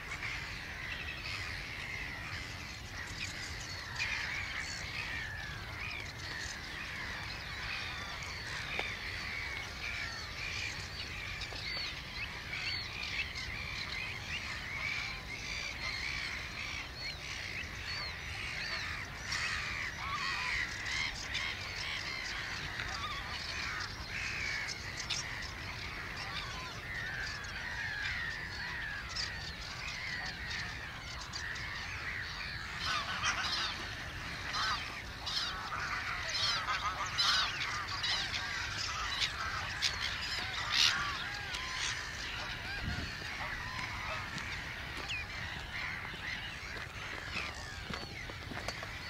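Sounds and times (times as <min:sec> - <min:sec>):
waterbirds calling: 0:00.0 - 0:49.0.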